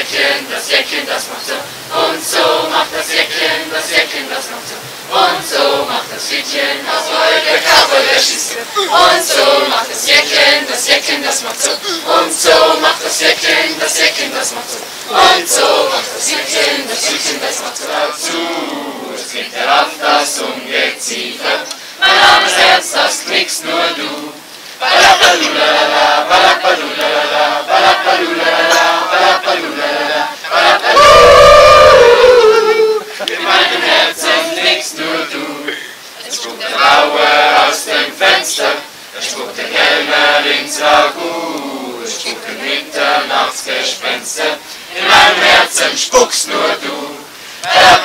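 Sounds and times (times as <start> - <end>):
group of people singing: 0.0 - 48.0.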